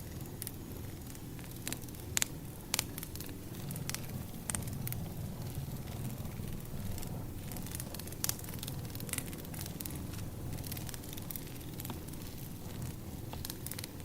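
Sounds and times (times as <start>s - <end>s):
fire pops: 0.0s - 14.0s
firewood crackling: 0.0s - 14.0s.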